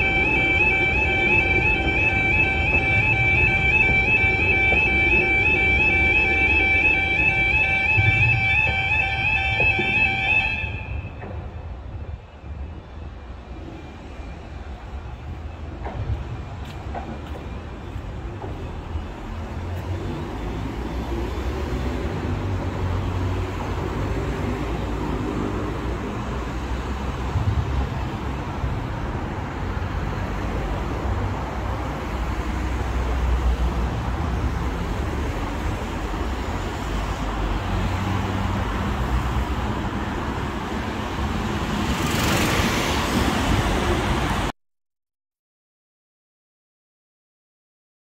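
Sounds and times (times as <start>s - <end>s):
diesel train moving: 0.0s - 44.5s
low rumble of road traffic: 0.0s - 44.5s.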